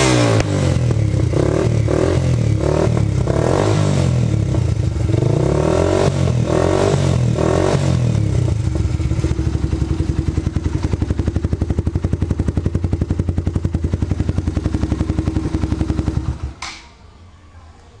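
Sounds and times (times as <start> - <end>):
motorcycle engine blips and idle: 0.0 - 16.9.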